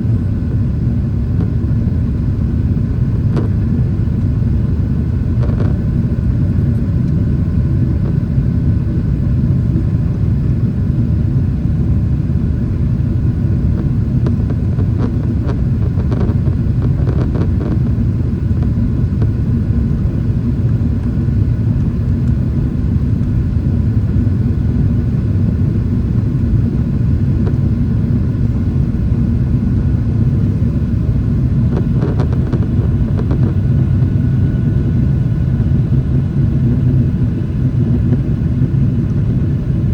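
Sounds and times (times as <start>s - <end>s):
airliner engine rumble: 0.0s - 39.9s.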